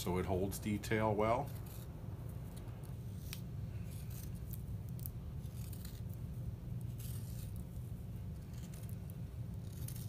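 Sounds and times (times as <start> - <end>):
steady low hum: 0.0 - 10.0
knife scraping wood: 1.3 - 10.0.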